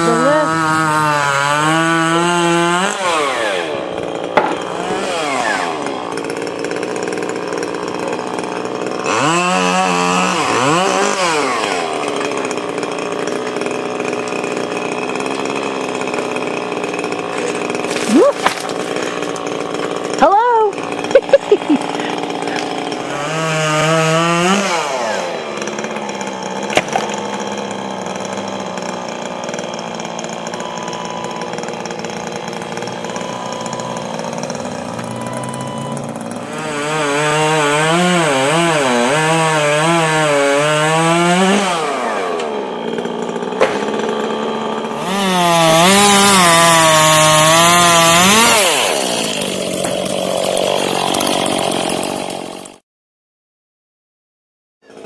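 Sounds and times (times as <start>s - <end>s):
chainsaw cutting wood: 0.0s - 52.8s.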